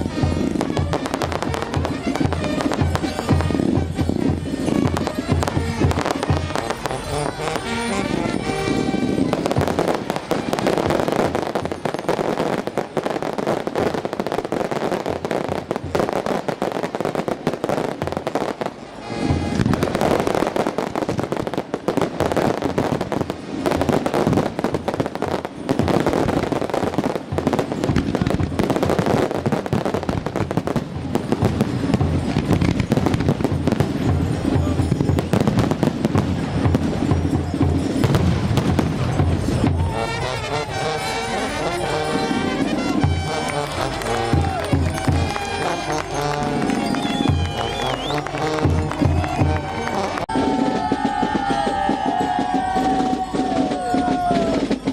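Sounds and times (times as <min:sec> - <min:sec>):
fireworks crackling and banging: 0:00.0 - 0:54.9
music: 0:00.0 - 0:54.9.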